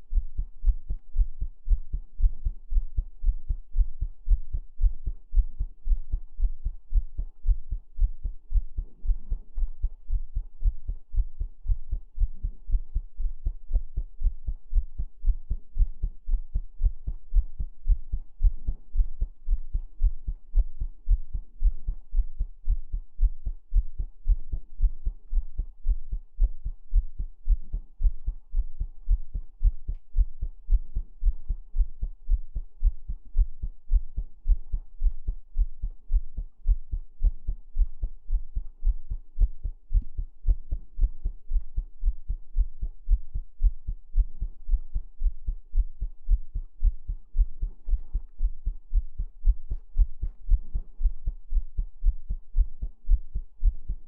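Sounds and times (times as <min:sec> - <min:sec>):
heartbeat thuds: 0:00.0 - 0:54.0.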